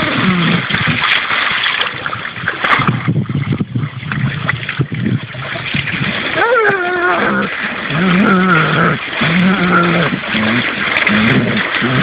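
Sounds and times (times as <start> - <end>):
dog splashing through water: 0.0 - 12.0.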